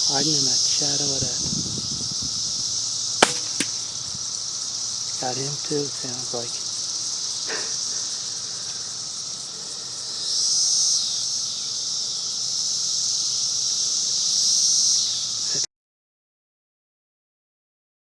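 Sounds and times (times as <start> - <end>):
insect chorus buzzing: 0.0 - 15.7.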